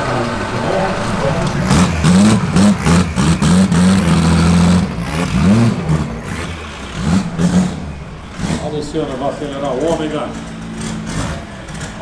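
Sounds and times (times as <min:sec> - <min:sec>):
drag car engine revving: 0:00.0 - 0:12.0.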